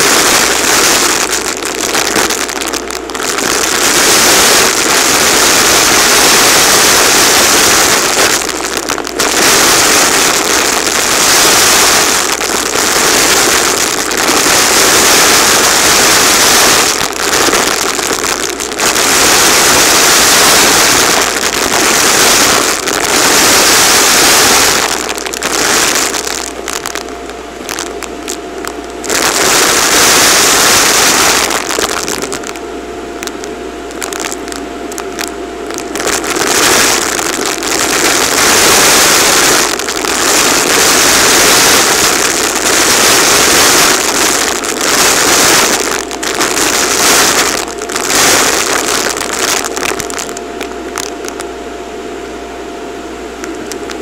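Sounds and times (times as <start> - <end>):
pieces rattling up hose: 0.0 - 32.6, 33.2 - 51.4
vacuum cleaner suction: 0.0 - 32.6, 33.3 - 50.3.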